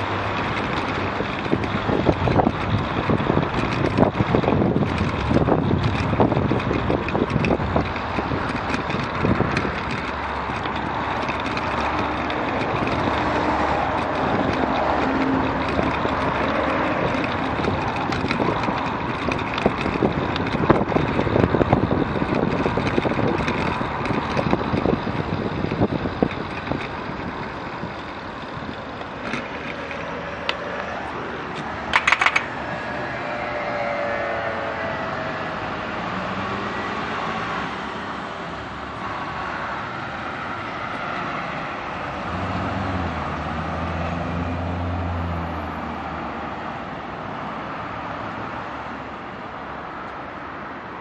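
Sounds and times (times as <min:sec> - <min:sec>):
wind on microphone: 0:00.0 - 0:46.1
bicycle rattles and clicks: 0:00.0 - 0:51.0
road traffic passing: 0:00.0 - 0:51.0.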